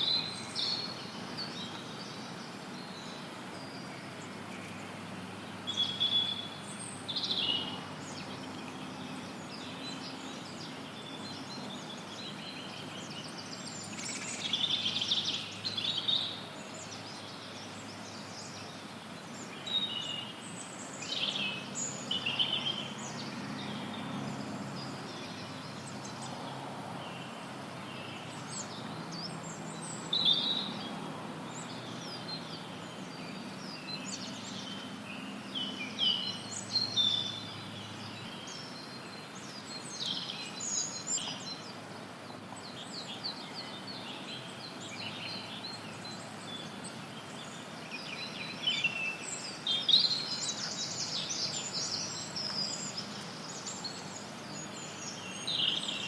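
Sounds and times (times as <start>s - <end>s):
songbirds chirping: 0.0s - 56.0s
white noise hiss: 0.0s - 56.0s.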